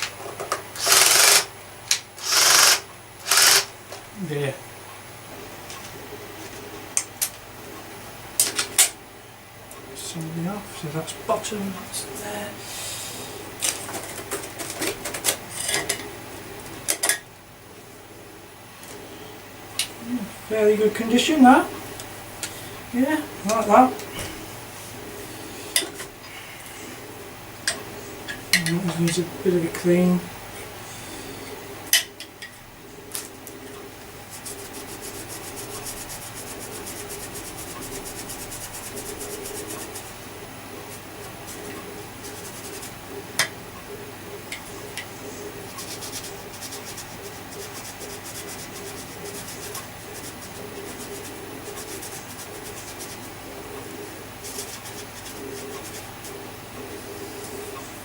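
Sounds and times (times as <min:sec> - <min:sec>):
faint room noise: 0:00.0 - 0:58.0.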